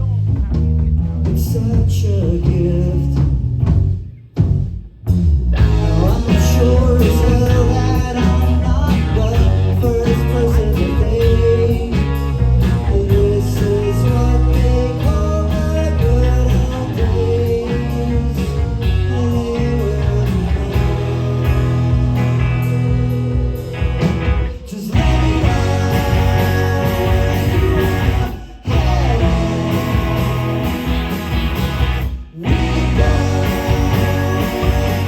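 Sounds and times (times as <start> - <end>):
live rock band with singer: 0.0 - 35.0.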